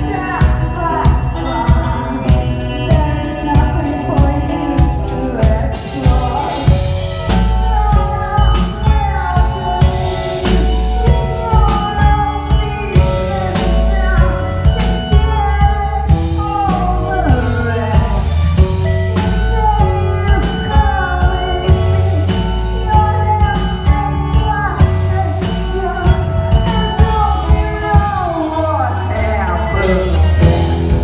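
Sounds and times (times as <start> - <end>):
drum kit beat: 0.0 - 31.0
live band playing: 0.0 - 31.0
person singing: 0.0 - 31.0.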